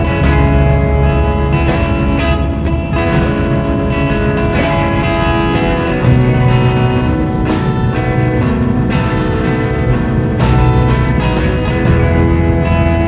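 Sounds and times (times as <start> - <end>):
guitar: 0.0 - 13.0
steady drum beat: 0.0 - 13.0.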